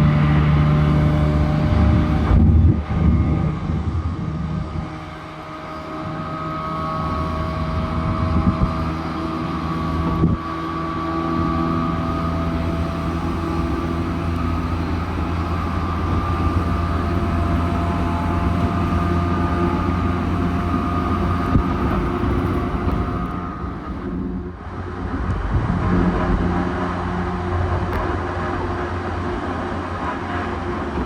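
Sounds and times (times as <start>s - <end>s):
electric train rumbling: 0.0s - 31.0s
motor whine: 0.0s - 31.0s.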